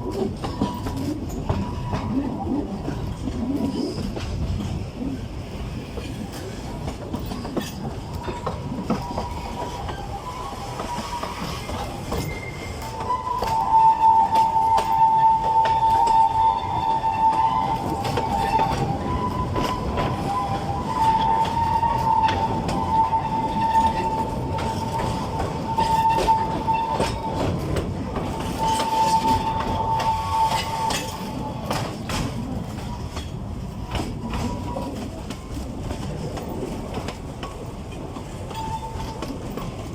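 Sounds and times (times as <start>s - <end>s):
diesel locomotive running: 0.0s - 39.9s
wheels clicking over rail joints: 0.0s - 39.9s.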